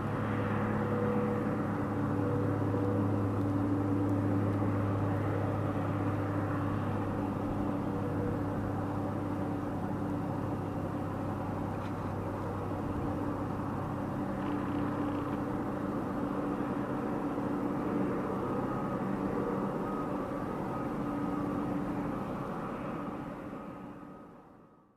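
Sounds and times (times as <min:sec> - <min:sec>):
engine humming: 0:00.0 - 0:24.4.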